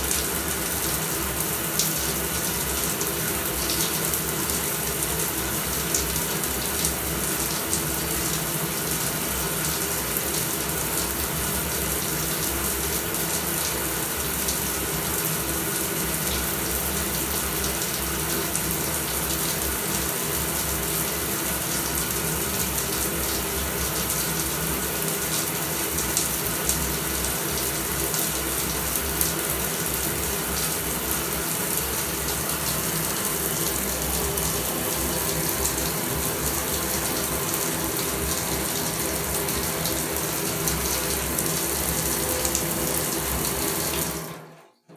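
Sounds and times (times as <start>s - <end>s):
shower water spraying: 0.0s - 44.4s.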